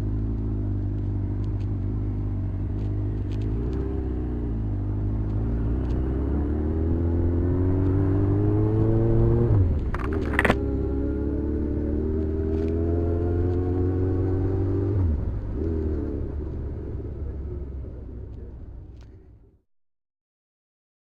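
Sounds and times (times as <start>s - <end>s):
motorcycle engine accelerating: 0.0s - 19.4s.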